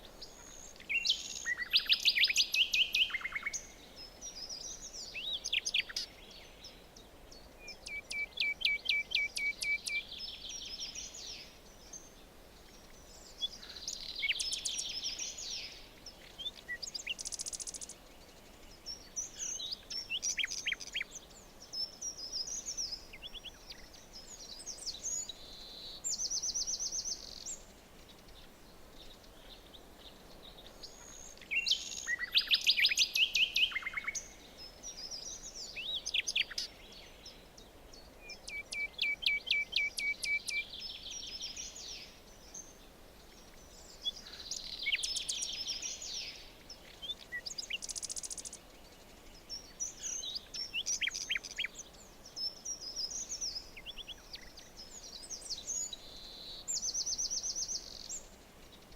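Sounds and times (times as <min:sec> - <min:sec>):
faint steady hiss: 0:00.0 - 0:58.9
songbirds singing: 0:00.0 - 0:58.9.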